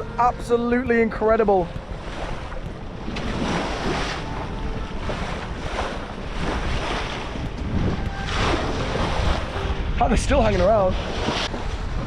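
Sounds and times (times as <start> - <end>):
sea water splashing: 0.0 - 12.0
wind buffeting microphone: 0.0 - 12.0.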